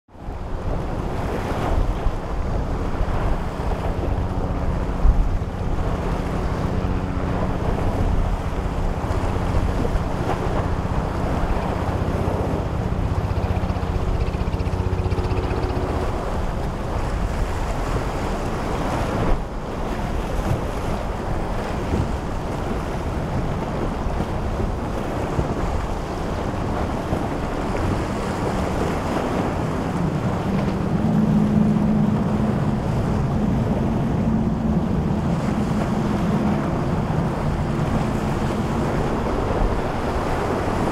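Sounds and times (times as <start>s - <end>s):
powerboat engines humming: 0.1s - 40.9s
waves and surf: 0.1s - 40.9s
wind buffeting microphone: 0.1s - 40.9s.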